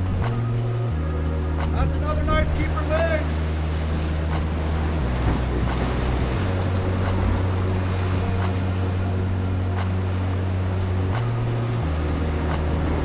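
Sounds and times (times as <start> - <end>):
wind rumble on microphone: 0.0 - 13.0
surf washing against rocks: 1.5 - 13.0.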